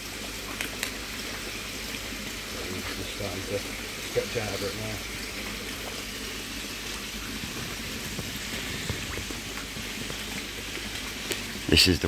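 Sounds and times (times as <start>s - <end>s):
water pattering on a pond: 0.0s - 12.0s.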